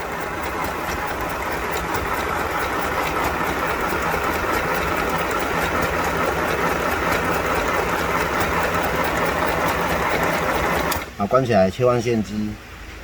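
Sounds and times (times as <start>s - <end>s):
sewing machine running: 0.0s - 11.1s.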